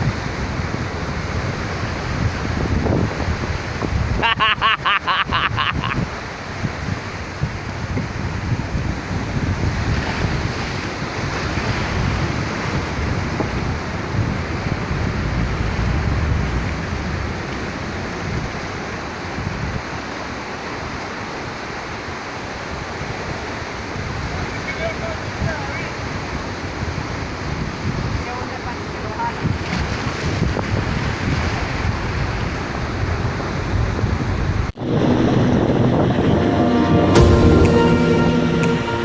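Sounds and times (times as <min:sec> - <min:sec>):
wind buffeting microphone: 0:00.0 - 0:04.4, 0:05.3 - 0:37.6
surf washing onto shore: 0:00.0 - 0:39.0.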